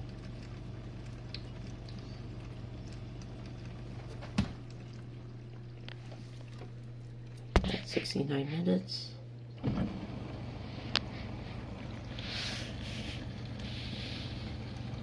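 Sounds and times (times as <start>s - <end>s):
dishwasher motor hum: 0.0s - 15.0s.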